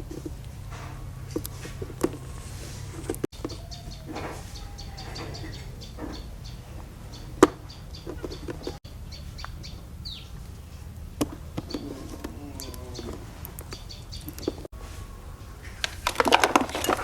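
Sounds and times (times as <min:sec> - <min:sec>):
small birds chirping: 0:00.4 - 0:14.7.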